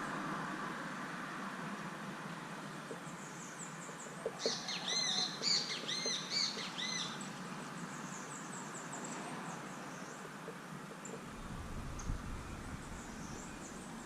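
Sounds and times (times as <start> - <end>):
songbird chirping: 2.6 - 14.0.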